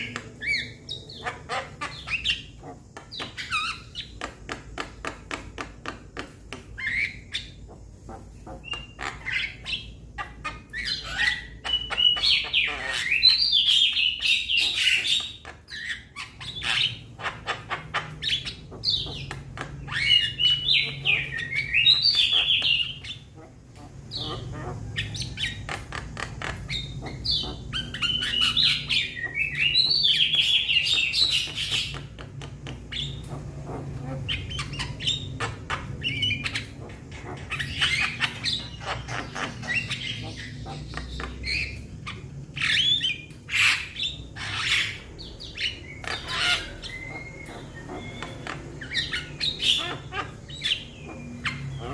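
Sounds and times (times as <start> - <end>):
bird calling with harsh clicks: 0.0 - 51.9
bird chattering and whistling: 0.0 - 51.9.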